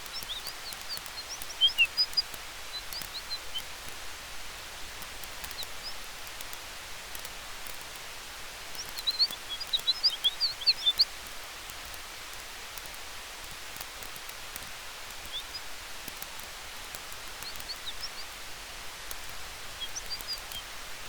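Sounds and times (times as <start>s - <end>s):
small bird chirping: 0.0s - 4.0s, 4.8s - 7.9s, 8.6s - 18.4s, 19.0s - 20.7s
campfire crackling: 0.0s - 21.0s
wind through trees: 0.0s - 21.0s.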